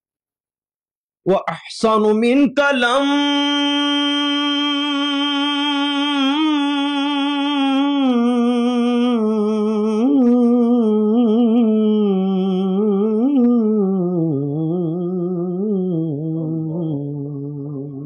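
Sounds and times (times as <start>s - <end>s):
person singing unaccompanied: 1.4s - 18.0s.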